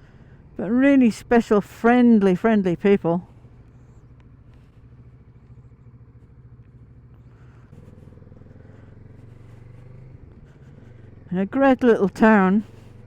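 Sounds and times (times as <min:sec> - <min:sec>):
muffled motorcycle engine: 0:00.0 - 0:13.0.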